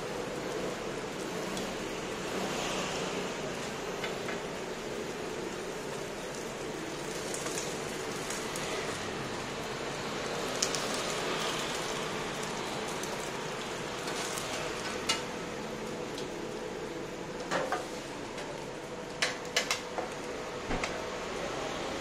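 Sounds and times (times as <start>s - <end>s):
buns sizzling in oil: 0.0s - 22.0s.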